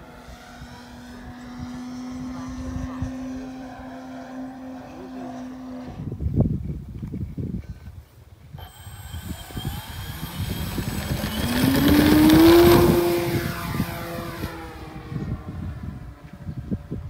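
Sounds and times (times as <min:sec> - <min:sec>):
model airplane motor buzzing: 0:00.0 - 0:06.2, 0:08.6 - 0:17.0
high propeller whine: 0:00.0 - 0:06.4, 0:08.6 - 0:17.0.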